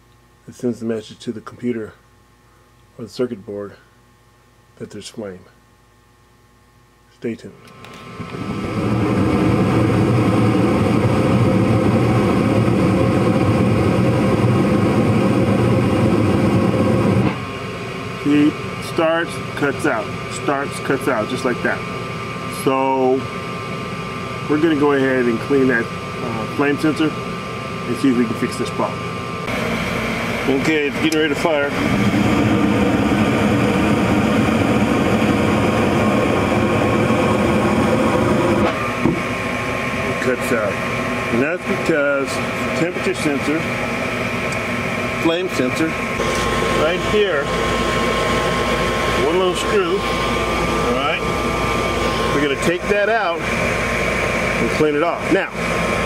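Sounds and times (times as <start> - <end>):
gas furnace rumbling: 7.2 - 56.0.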